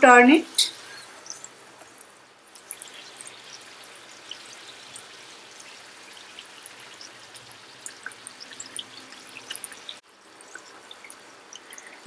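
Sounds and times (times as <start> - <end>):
bread deep-frying in oil: 0.6 - 12.0
crackling pops of frying: 0.6 - 12.0.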